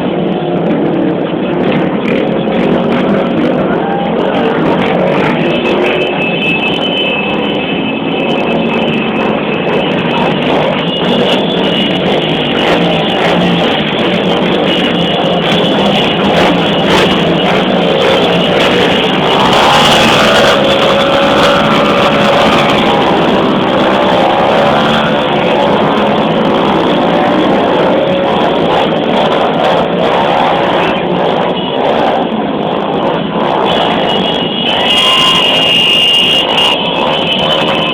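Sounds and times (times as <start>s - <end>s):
motorcycle engines running: 0.0s - 37.9s.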